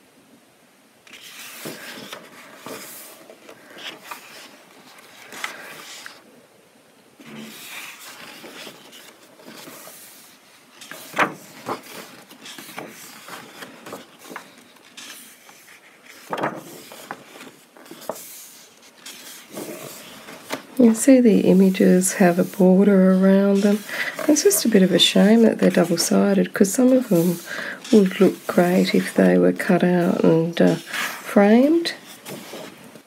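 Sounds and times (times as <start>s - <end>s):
book pages turning: 1.1s - 6.2s, 7.2s - 33.0s
paper flapping: 1.1s - 6.2s, 7.2s - 33.0s.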